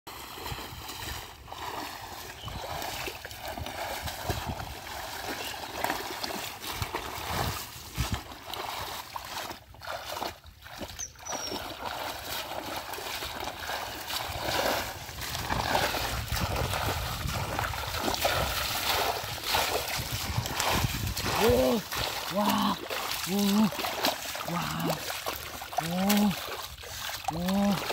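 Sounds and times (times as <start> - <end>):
legs wading through water: 0.1 - 27.9
shallow water splashing and sloshing: 0.1 - 27.9.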